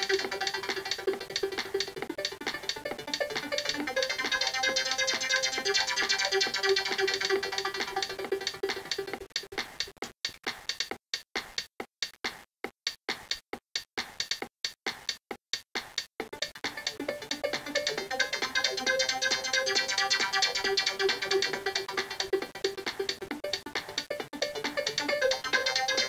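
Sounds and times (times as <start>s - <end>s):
background music with a beat: 0.0s - 26.0s.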